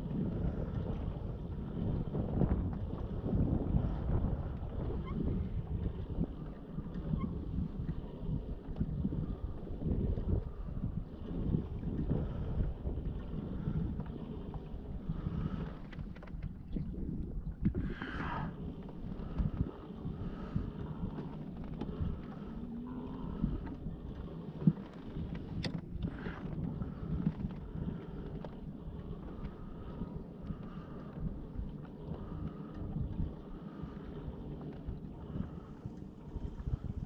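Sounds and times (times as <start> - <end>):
water against kayak hull: 0.0 - 37.0
wind buffeting microphone: 0.0 - 37.0.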